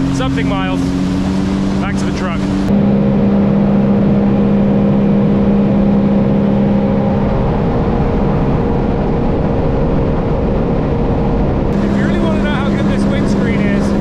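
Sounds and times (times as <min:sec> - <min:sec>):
jet ski engine at full throttle: 0:00.0 - 0:14.0.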